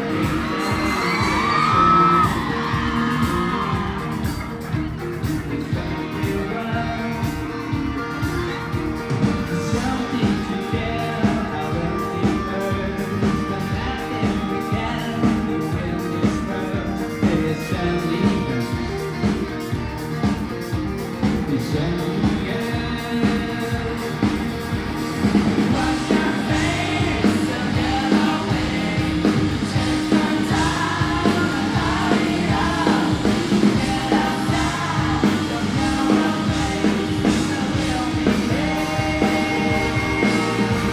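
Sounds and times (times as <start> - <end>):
person singing: 0.0 - 19.8, 21.2 - 24.8, 25.5 - 40.9
drums keeping a steady beat: 0.0 - 40.9
rock band playing live: 0.0 - 40.9.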